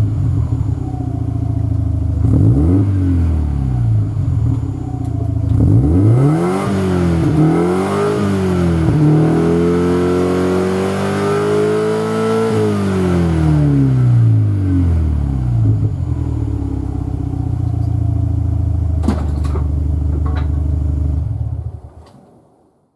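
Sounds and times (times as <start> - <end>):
car exhaust revving and idling: 0.0 - 22.0.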